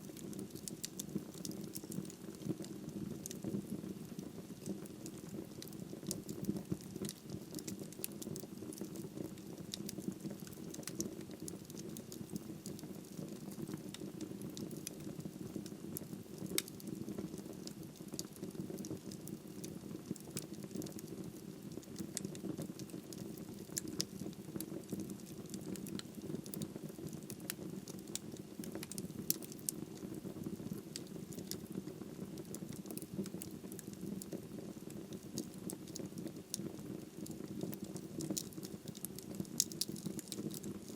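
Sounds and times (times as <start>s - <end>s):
burning wood crackling: 0.0s - 15.0s, 21.8s - 40.9s.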